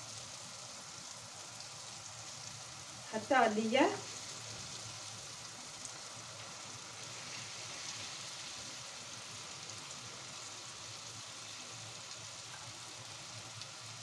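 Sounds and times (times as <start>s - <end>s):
meat and onions sizzling in oil: 0.0s - 14.0s.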